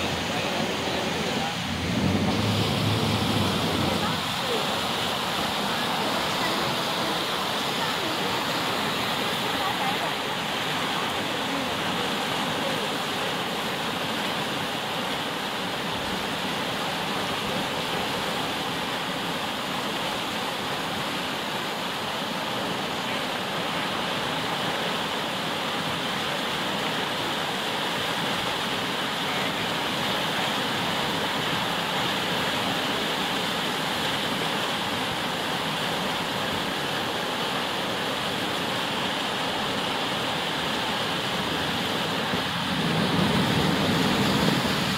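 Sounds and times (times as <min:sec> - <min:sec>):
whitewater rushing: 0:00.0 - 0:44.9.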